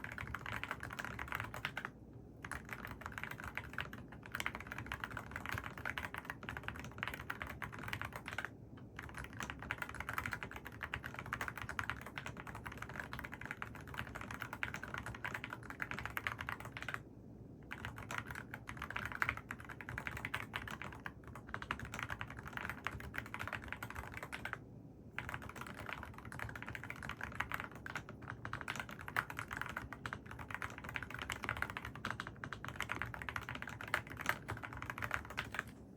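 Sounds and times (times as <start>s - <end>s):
mechanical keyboard typing: 0.0s - 17.0s, 17.7s - 24.6s, 25.2s - 35.8s.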